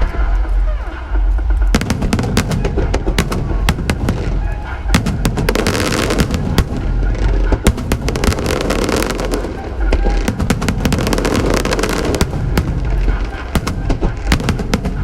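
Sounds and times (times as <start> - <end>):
deep rumble: 0.0 - 15.0
fireworks bangs and crackles: 0.0 - 15.0
music: 0.0 - 15.0.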